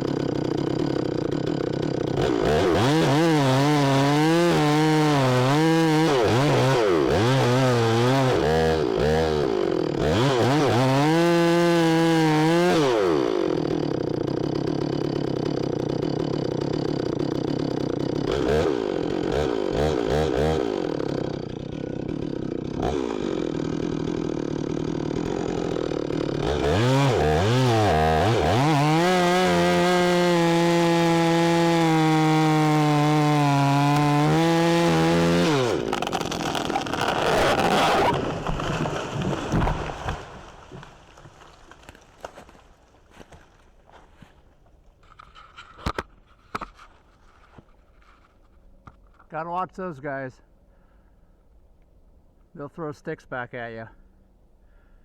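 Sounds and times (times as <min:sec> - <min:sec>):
chainsaw revving: 0:00.0 - 0:44.3.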